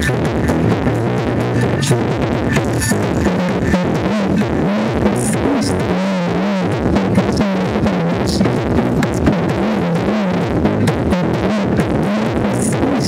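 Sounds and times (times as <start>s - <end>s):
loud electronic dance music: 0.0s - 13.0s.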